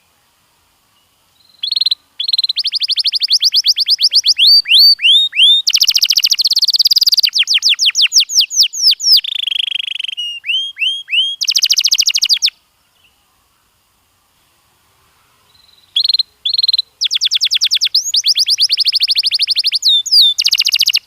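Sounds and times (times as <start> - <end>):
canary singing trills: 1.4 - 13.2, 15.5 - 21.0.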